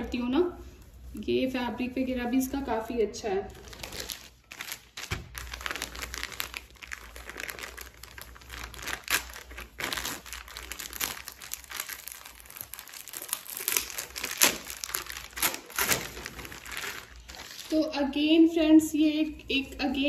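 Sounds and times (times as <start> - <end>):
plastic bag crinkling: 0.0 - 17.9.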